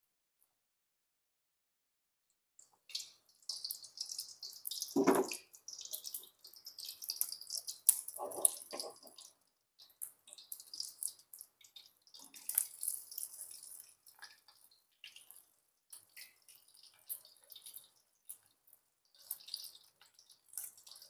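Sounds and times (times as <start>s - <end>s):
egg sizzling in hot oil: 2.8s - 21.0s.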